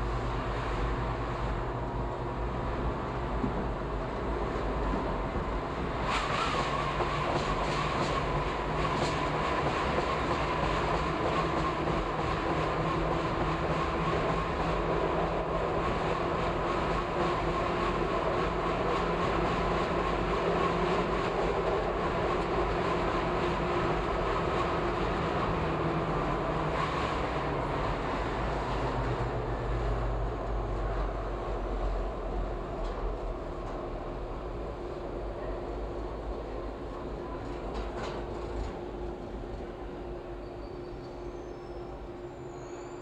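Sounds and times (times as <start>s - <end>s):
subway train rumbling on rails: 0.0s - 43.0s
train whine: 0.0s - 43.0s.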